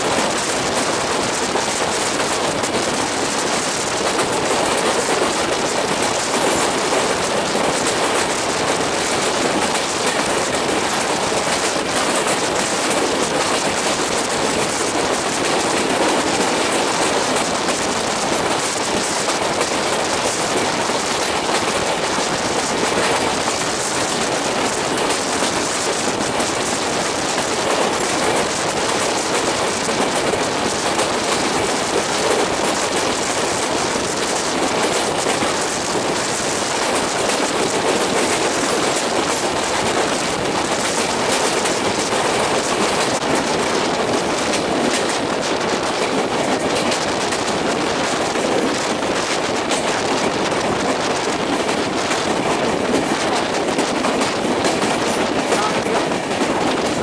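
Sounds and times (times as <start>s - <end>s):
train wheel and rail noise: 0.0s - 57.0s.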